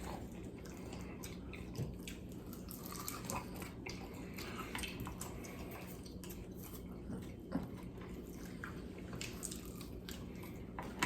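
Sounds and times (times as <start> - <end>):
chewing and crunching: 0.0 - 11.0.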